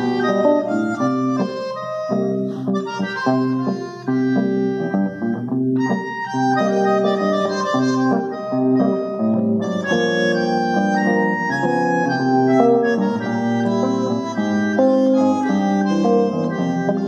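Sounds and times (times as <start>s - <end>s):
instrumental trio playing: 0.0s - 17.0s.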